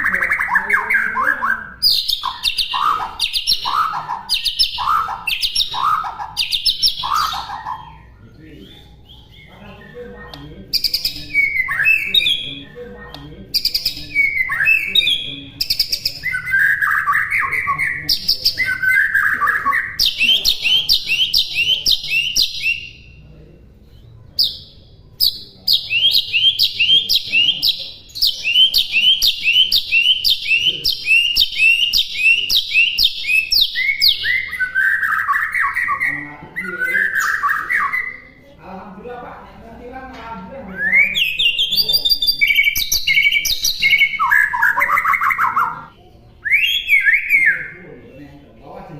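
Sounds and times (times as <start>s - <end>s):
songbird singing whistled notes: 0.0s - 23.2s, 23.9s - 38.4s, 40.7s - 48.2s.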